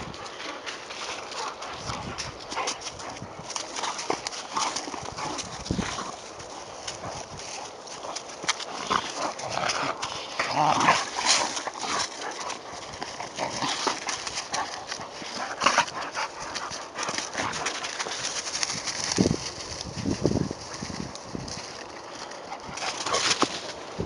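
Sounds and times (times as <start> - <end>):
dogs scuffling: 0.0 - 24.0.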